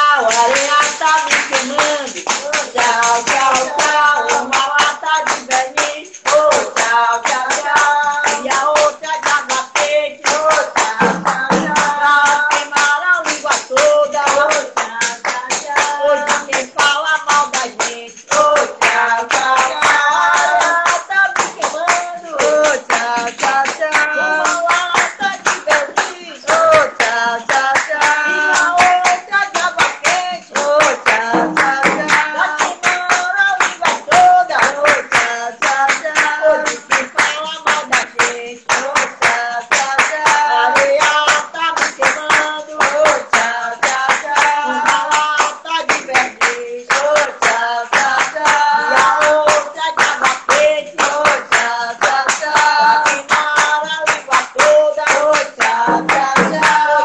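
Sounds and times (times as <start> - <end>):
person singing folk song: 0.0 - 57.0
steady handclapping: 0.0 - 57.0.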